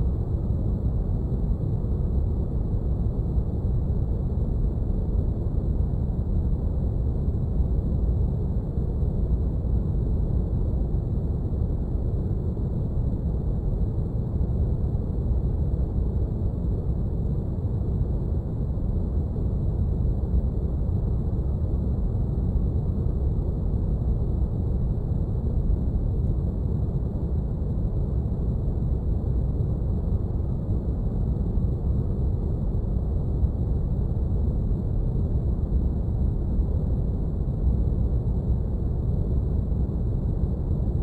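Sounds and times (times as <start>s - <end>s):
steady low rumbling noise: 0.0s - 41.0s.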